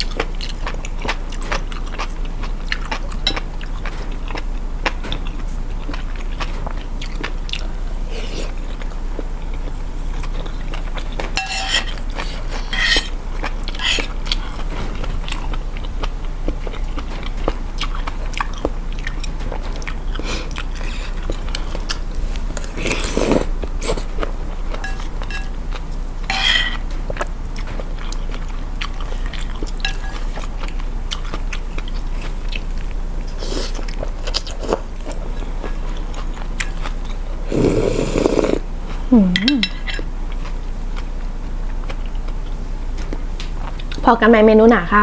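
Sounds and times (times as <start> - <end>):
chewing and eating noodle soup: 0.0 - 44.4.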